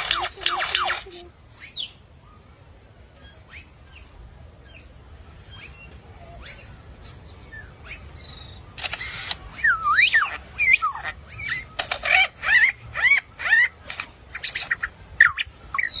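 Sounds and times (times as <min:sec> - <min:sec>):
birds squawking and chirping: 0:00.0 - 0:02.5, 0:03.2 - 0:16.0.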